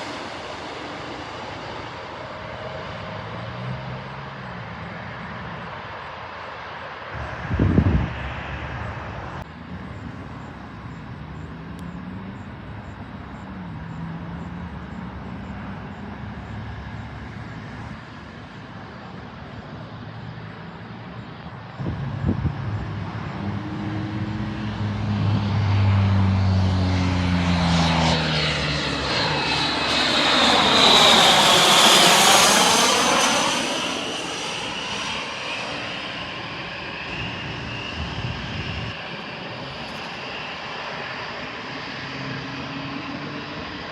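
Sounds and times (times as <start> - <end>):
airplane passing close by: 0.0 - 43.9.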